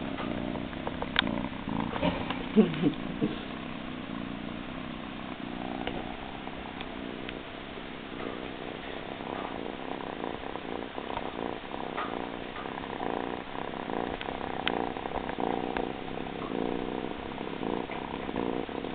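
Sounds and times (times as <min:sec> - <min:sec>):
kitten purring: 0:00.0 - 0:18.9.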